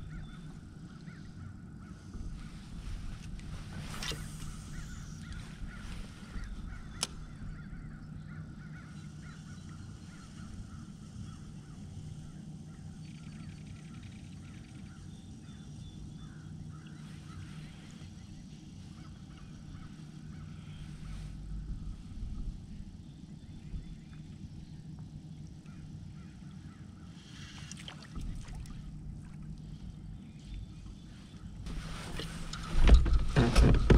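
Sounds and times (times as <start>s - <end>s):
birds calling: 0.0s - 33.9s.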